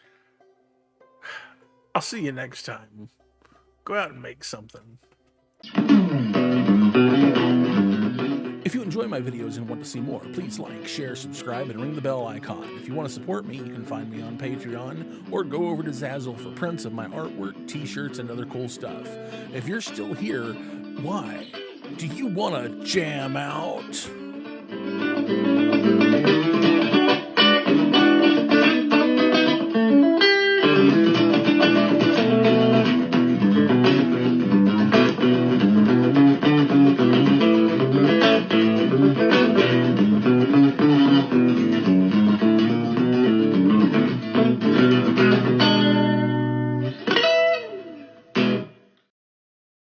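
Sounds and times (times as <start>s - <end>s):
plucked guitar music: 0.0s - 49.0s.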